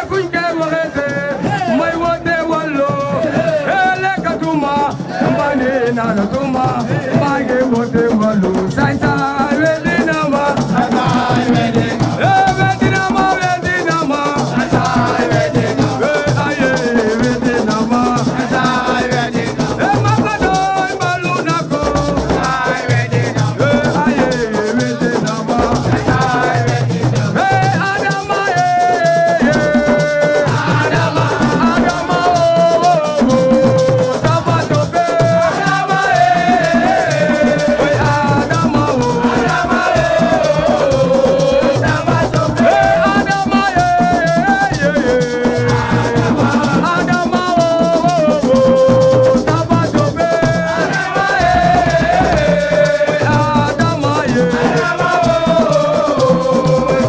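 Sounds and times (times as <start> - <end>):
drums: 0.0 - 57.0
music with singing: 0.0 - 57.0
shaker rattle: 0.0 - 57.0.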